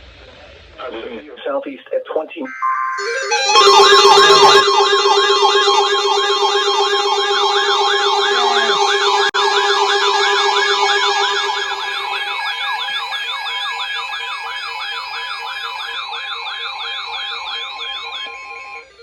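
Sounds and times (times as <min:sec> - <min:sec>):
electronic siren yelping: 0:02.5 - 0:19.0
steady tone pulsing beep: 0:02.5 - 0:19.0.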